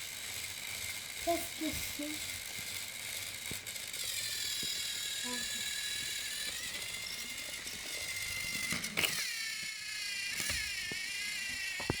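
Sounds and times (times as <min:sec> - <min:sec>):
toy train motor whining: 0:00.0 - 0:12.0.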